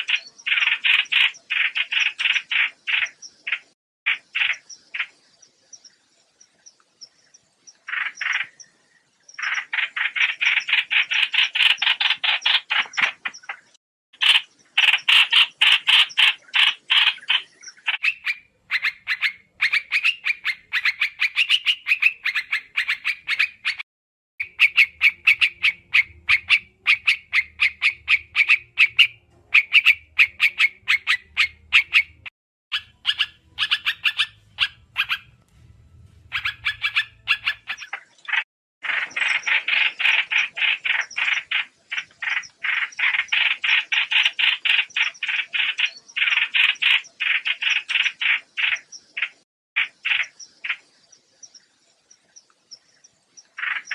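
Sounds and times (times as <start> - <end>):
bird chattering trills: 0.0 - 6.8, 7.7 - 8.7, 9.4 - 23.8, 24.4 - 35.4, 36.2 - 51.6, 52.2 - 53.9.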